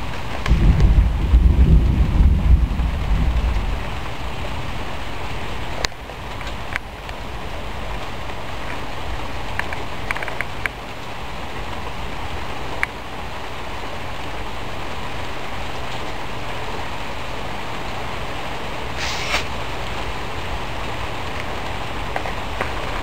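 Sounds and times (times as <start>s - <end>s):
steady rain hissing: 0.0s - 23.0s.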